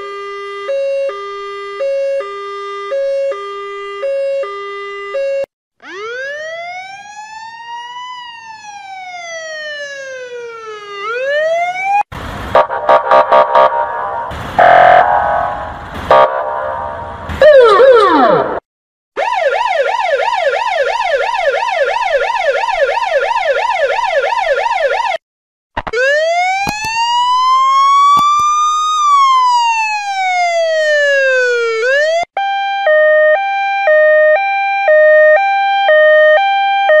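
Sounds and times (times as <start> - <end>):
siren wail: 0.0 - 18.6, 19.2 - 25.2, 25.9 - 37.0
siren yelp: 0.0 - 18.6, 19.2 - 25.2, 25.9 - 37.0
two-tone hi-lo siren: 0.0 - 18.6, 19.2 - 25.2, 25.9 - 37.0.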